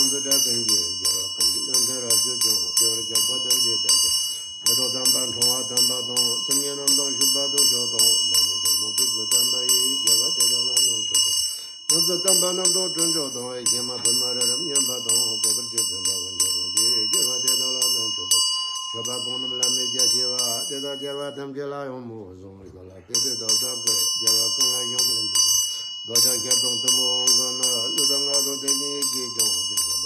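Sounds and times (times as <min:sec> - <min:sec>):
hand bell ringing: 0:00.0 - 0:21.5, 0:23.1 - 0:30.0
man chanting: 0:00.0 - 0:30.0.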